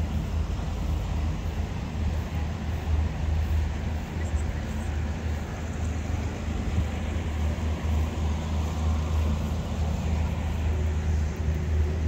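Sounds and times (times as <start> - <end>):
city street rumble: 0.0 - 12.0
traffic noise: 0.0 - 12.0.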